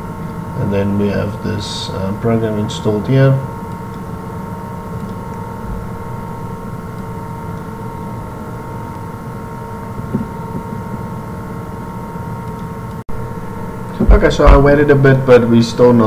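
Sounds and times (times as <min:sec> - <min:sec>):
steady droning hum: 0:00.0 - 0:16.0.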